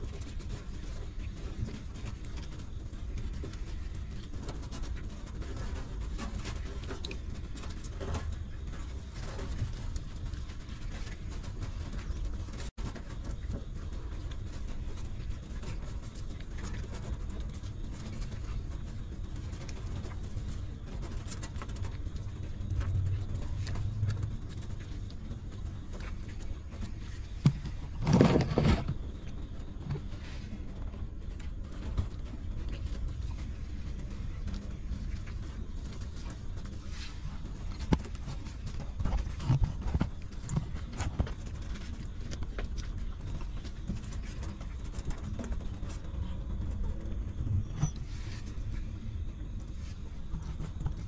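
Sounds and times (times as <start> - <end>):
puppies suckling and snuffling: 0.0 - 51.0
steady low rumble: 0.0 - 51.0.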